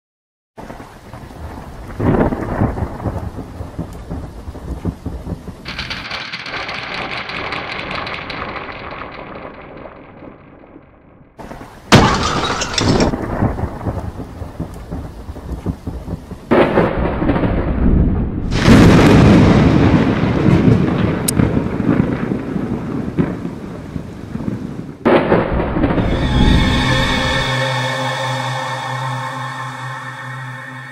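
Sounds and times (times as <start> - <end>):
rain falling: 0.6 - 10.1, 11.4 - 27.8
thunder claps: 0.6 - 10.6, 13.0 - 30.9.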